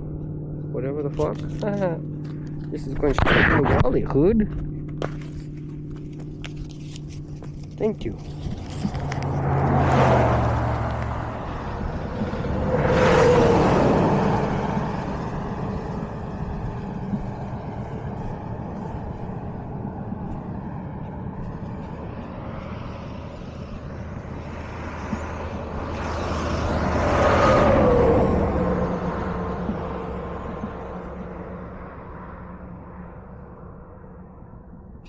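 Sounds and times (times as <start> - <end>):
low rumble of traffic: 0.0 - 35.0
vehicles passing at speed: 0.0 - 35.0.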